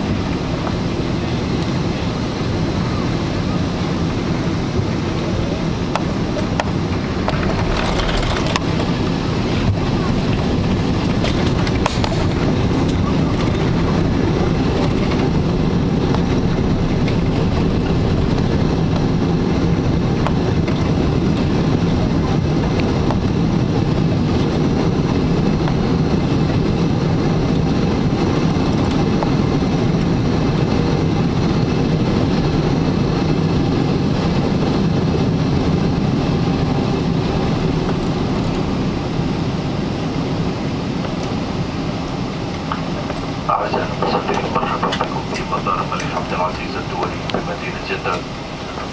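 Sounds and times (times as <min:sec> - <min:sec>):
airliner engines rumbling: 0:00.0 - 0:48.9.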